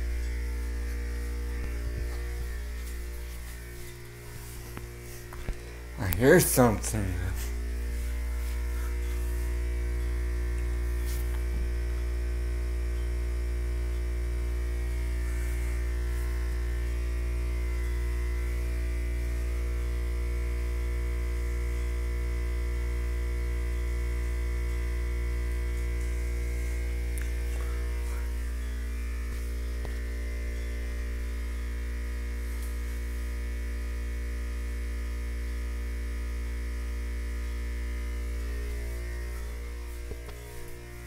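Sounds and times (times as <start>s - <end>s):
mains electric hum: 0.0s - 41.0s.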